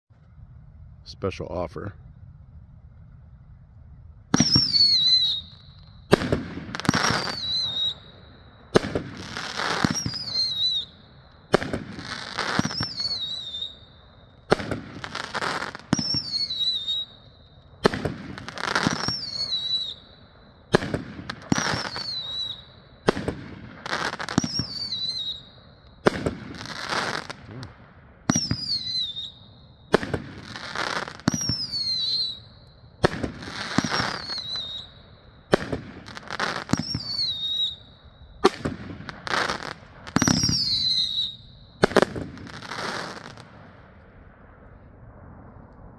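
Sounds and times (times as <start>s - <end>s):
firework bursts: 4.2s - 45.8s
firework whistling launches: 4.2s - 45.9s.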